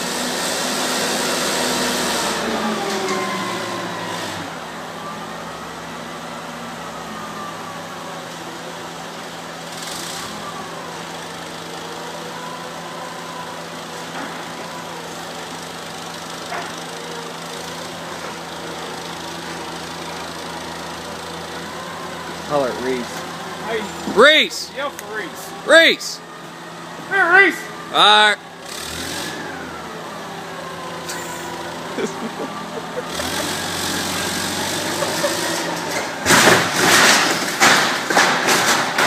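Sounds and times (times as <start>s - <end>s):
forklift engine running: 0.0s - 39.0s.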